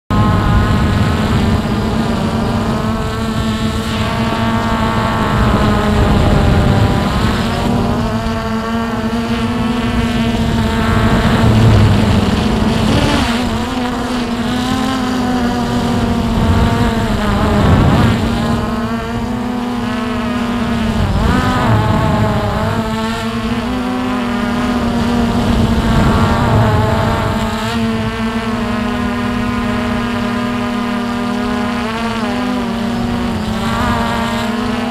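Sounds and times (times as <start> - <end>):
drone motors whining: 0.1 - 34.9
wind rushing on microphone: 0.1 - 34.9.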